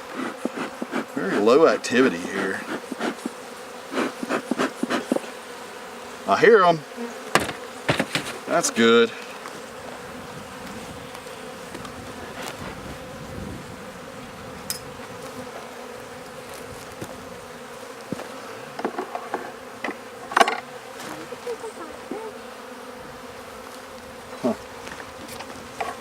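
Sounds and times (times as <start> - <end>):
honey bees humming: 0.0 - 26.0.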